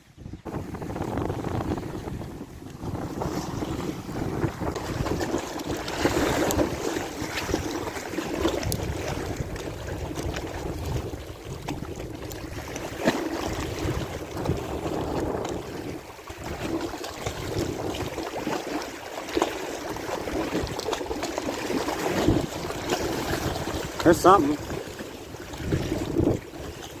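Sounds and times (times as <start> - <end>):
wind buffeting microphone: 0.0 - 18.8, 19.4 - 27.0
water lapping at shore: 0.0 - 27.0.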